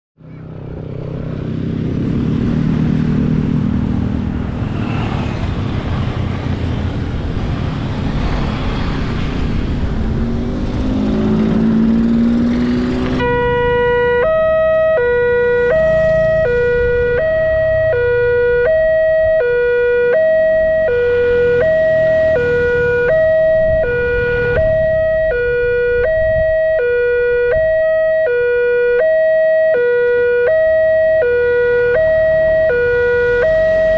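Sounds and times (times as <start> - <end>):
road traffic: 0.2 - 33.9
engine revving: 0.3 - 29.1.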